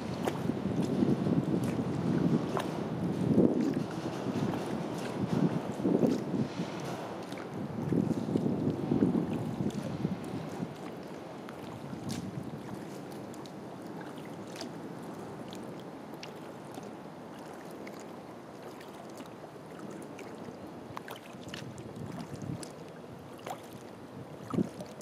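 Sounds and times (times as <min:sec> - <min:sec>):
paddle drips and splashes: 0:00.0 - 0:25.0
water lapping against hull: 0:00.0 - 0:25.0.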